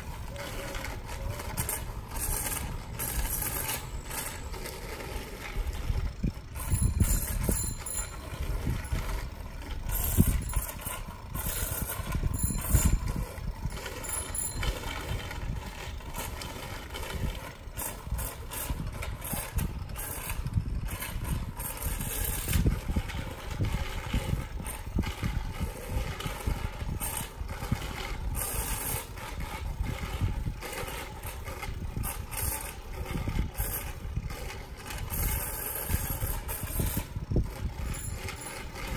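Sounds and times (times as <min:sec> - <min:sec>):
bicycle rattling: 0:00.0 - 0:38.9
tyres rolling over a path: 0:00.0 - 0:38.9
wind on microphone: 0:05.4 - 0:38.9.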